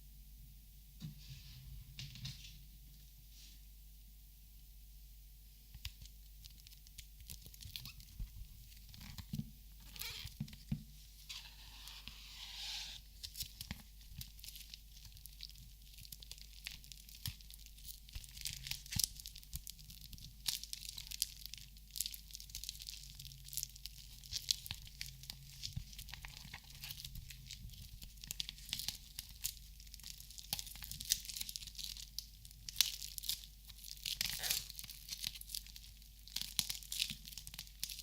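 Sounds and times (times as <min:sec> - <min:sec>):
crinkling and rustling: 0:05.8 - 0:38.0.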